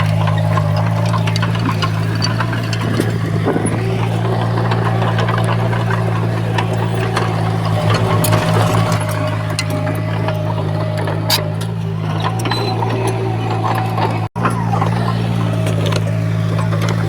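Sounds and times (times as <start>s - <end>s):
heavy machinery diesel engine: 0.0s - 17.0s
metallic clicks and clanks: 0.0s - 17.0s.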